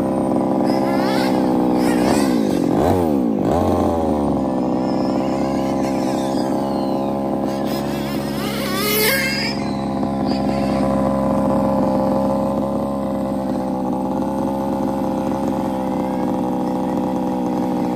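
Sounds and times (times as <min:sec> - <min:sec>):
two-stroke rc car engine running: 0:00.0 - 0:17.9.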